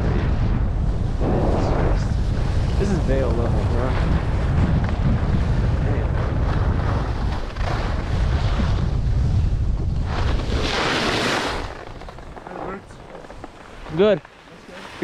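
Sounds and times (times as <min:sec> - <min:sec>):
wind buffeting microphone: 0:00.0 - 0:15.0
skis scraping over snow: 0:01.4 - 0:15.0.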